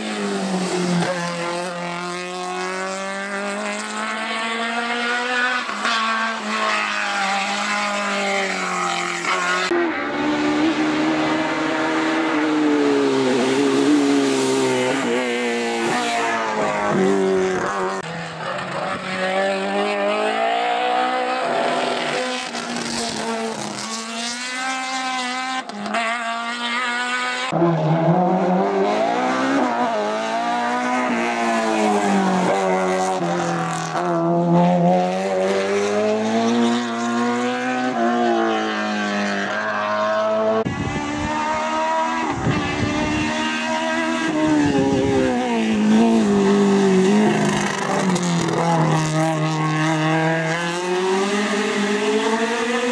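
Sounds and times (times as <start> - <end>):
race car engine revving hard: 0.0 - 52.9.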